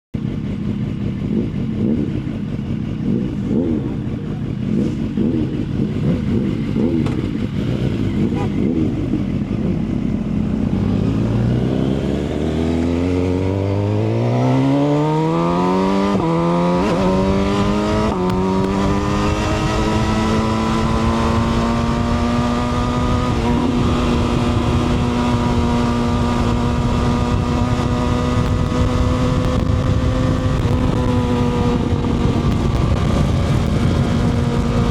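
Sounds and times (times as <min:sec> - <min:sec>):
motorcycle engine accelerating: 0:00.2 - 0:34.9.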